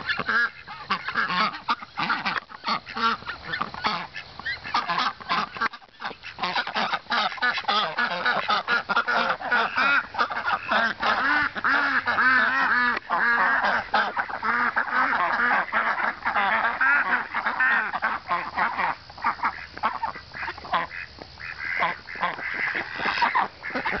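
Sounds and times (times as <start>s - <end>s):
ducks quacking: 0.0s - 24.0s.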